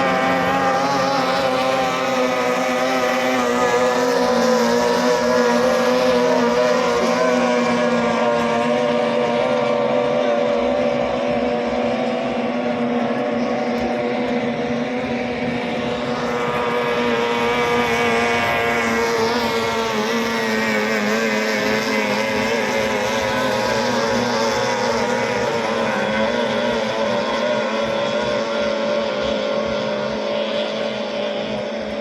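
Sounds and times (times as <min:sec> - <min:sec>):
outboard motors at high revs: 0:00.0 - 0:32.0.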